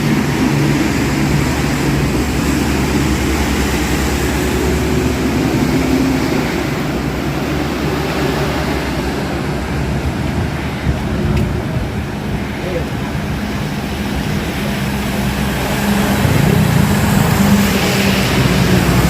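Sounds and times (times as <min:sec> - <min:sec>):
rain hissing: 0:00.0 - 0:19.0
vehicle engine drone: 0:00.0 - 0:19.0
wet road noise: 0:00.0 - 0:19.0.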